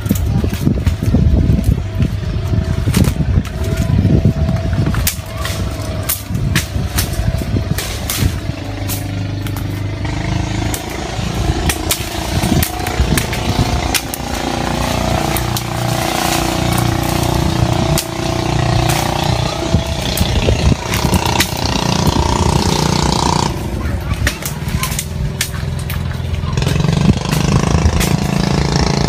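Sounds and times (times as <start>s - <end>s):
twigs cracking underfoot: 0.0s - 23.5s
leaves rustling underfoot: 0.0s - 29.0s
steady motor hum: 0.0s - 29.0s.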